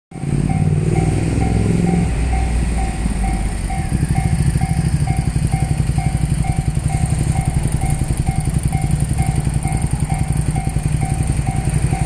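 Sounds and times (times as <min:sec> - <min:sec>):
loud low rumble: 0:00.1 - 0:12.0
level crossing bell: 0:00.2 - 0:12.0.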